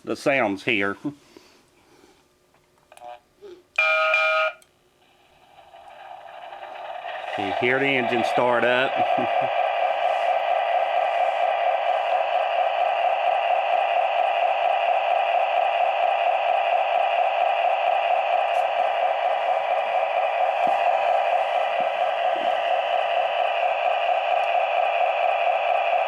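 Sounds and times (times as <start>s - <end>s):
model locomotive diesel sound: 3.8s - 26.0s.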